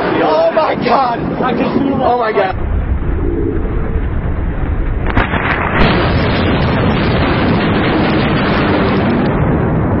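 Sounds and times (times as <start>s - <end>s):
thunder crack and rumble: 1.4s - 10.0s.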